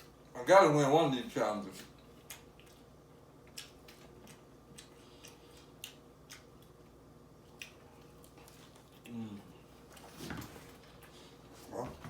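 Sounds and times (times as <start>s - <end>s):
low steady hum: 0.0s - 12.0s
person chewing food: 1.8s - 11.5s.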